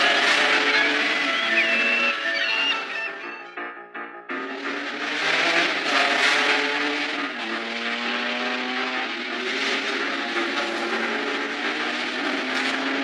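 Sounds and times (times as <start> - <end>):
cartoon car engine: 0.0 - 3.6, 4.3 - 13.0
background music with held notes: 0.0 - 13.0.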